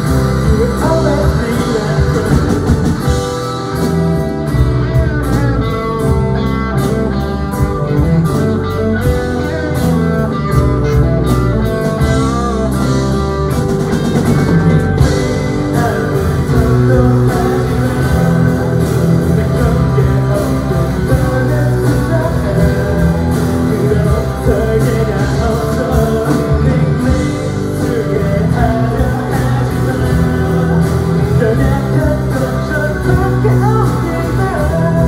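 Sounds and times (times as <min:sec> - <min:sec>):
acoustic guitar: 0:00.0 - 0:35.0
drum kit: 0:00.0 - 0:35.0
electric guitar: 0:00.0 - 0:35.0
keyboards: 0:00.0 - 0:35.0
man singing lead: 0:00.0 - 0:35.0.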